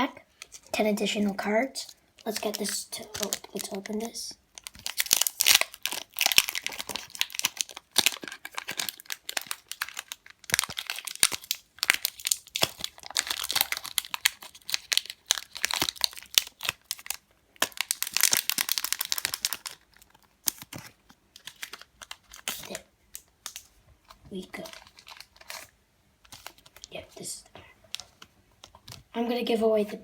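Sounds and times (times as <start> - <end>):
foil wrapper crinkling: 2.2 - 27.0.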